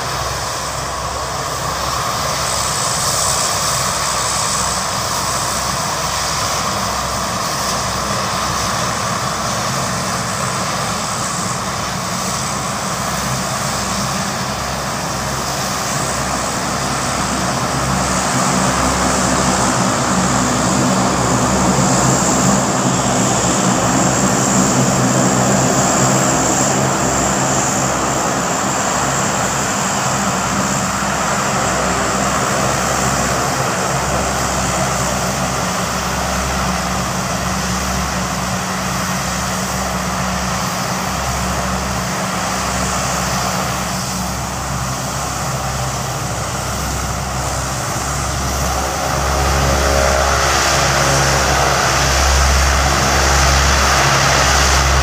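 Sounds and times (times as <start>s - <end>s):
turboprop engines droning: 0.0s - 55.0s.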